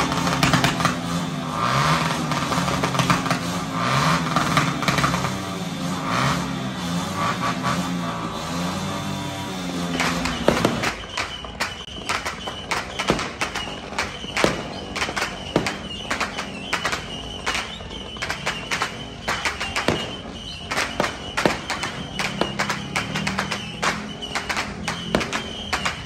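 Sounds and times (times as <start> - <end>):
firecrackers banging and popping: 0.0 - 26.0.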